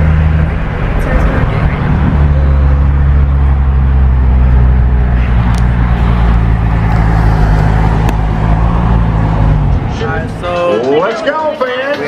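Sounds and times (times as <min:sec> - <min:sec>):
car engine drone: 0:00.0 - 0:11.6
road and tyre noise: 0:00.0 - 0:12.0.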